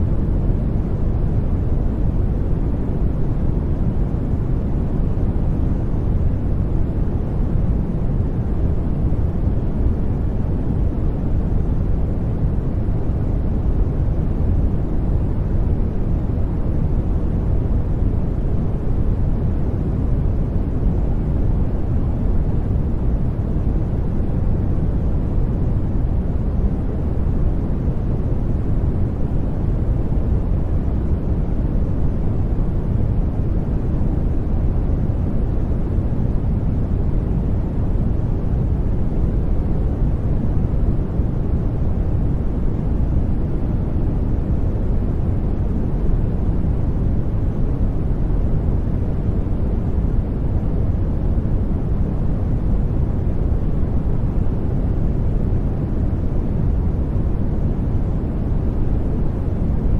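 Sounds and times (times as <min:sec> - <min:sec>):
deep steady generated noise: 0:00.0 - 0:59.9.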